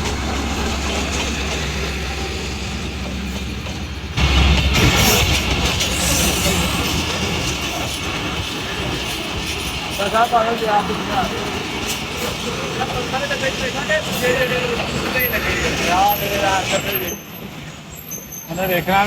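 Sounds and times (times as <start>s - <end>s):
diesel locomotive rumble: 0.0s - 19.0s
train rushing past: 0.0s - 19.0s.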